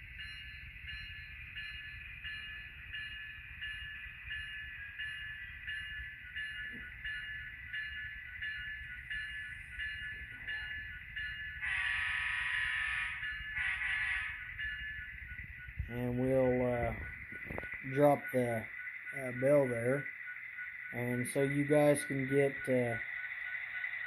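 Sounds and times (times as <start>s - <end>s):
model diesel locomotive sound: 0.0s - 24.0s.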